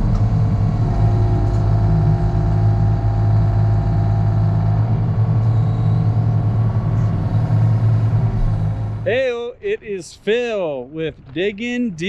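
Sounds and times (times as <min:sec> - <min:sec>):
heavy machinery engine running: 0:00.0 - 0:11.8.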